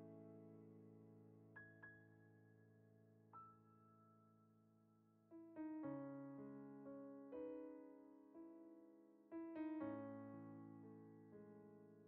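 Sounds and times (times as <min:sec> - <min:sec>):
quiet piano music: 0:00.0 - 0:12.0.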